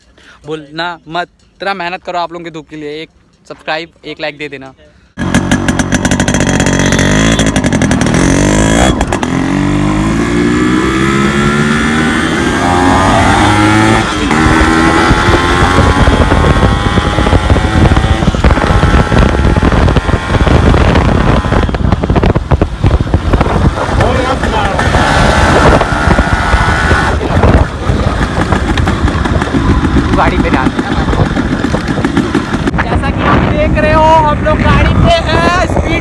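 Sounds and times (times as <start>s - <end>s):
motorcycle engine accelerating: 5.2s - 35.4s
wind noise on microphone: 5.2s - 36.0s.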